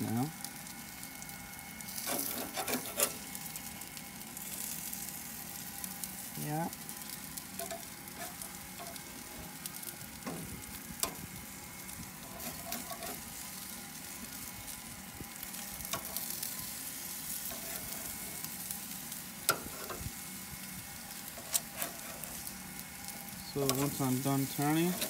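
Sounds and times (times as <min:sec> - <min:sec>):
chicken sizzling on a grill: 0:00.0 - 0:25.0.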